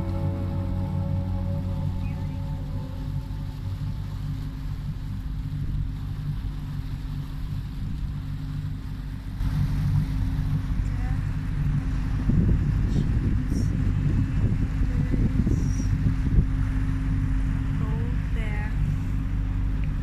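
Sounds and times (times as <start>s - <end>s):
boat motor humming: 0.0s - 20.0s
water and wind noise: 0.0s - 20.0s.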